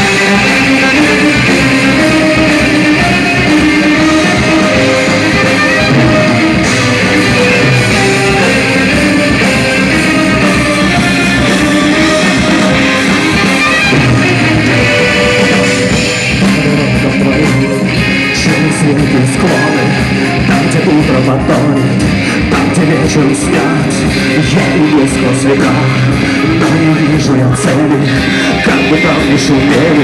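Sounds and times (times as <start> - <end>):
electric guitar: 0.0 - 30.0
rock band playing live: 0.0 - 30.0.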